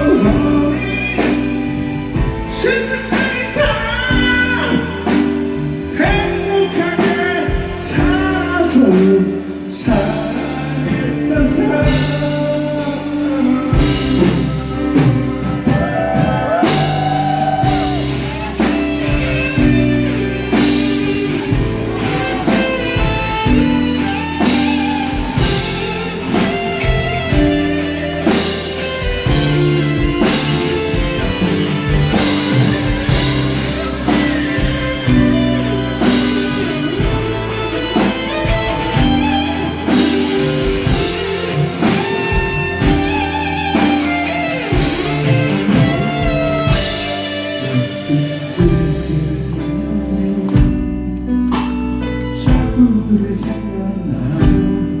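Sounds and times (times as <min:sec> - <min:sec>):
electric guitar lead: 0:00.0 - 0:55.0
live rock band playing: 0:00.0 - 0:55.0.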